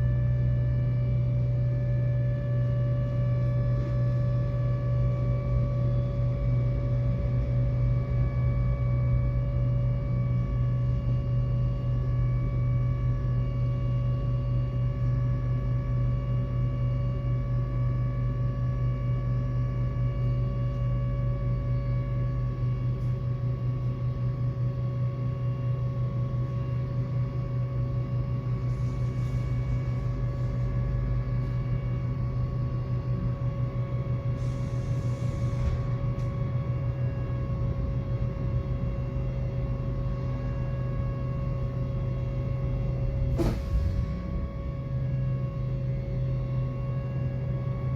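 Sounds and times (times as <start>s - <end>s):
tram running hum: 0.0s - 47.9s.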